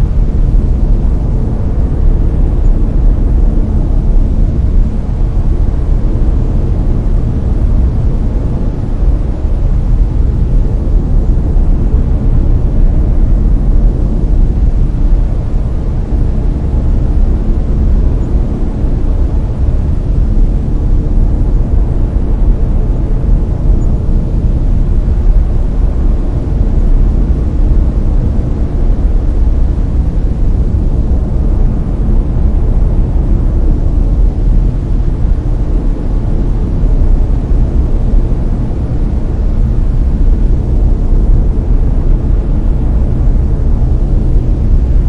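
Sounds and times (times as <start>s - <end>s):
deep rumbling brown noise: 0.0s - 45.0s.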